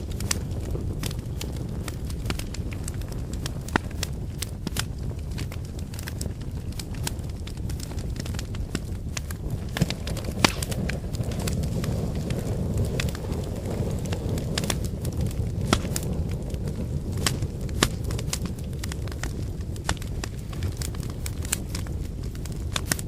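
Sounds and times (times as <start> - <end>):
campfire flames rushing: 0.0 - 23.0
wood crackling and popping: 0.0 - 23.0.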